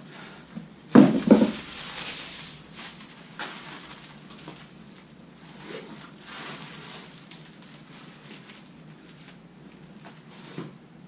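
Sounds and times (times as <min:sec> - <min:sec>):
plastic bag rustling: 0:00.2 - 0:10.7.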